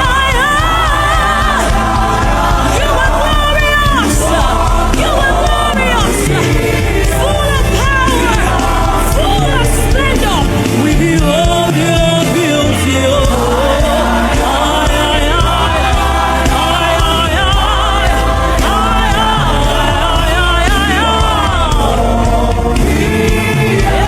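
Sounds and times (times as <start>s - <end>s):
bass: 0.0s - 24.0s
choir singing: 0.0s - 24.0s
keyboard: 0.0s - 24.0s
wordless singing: 0.0s - 24.0s.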